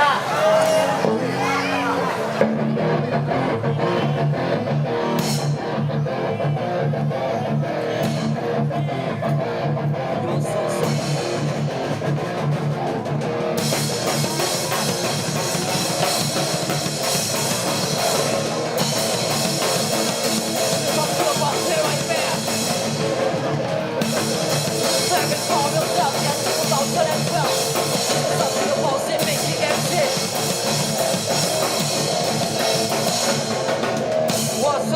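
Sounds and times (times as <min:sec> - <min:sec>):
hardcore band playing: 0:00.0 - 0:34.9.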